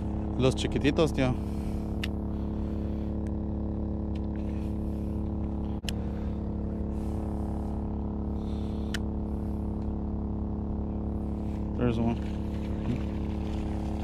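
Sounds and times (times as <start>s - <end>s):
generator engine drone: 0.0s - 14.0s.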